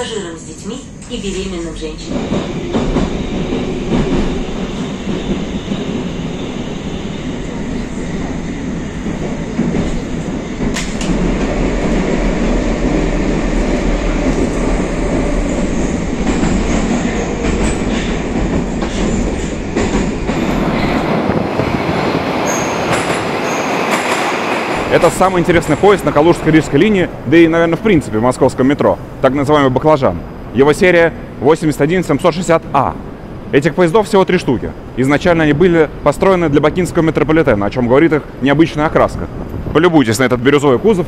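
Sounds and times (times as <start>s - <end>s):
metro train wheels rumbling: 0.0s - 41.0s.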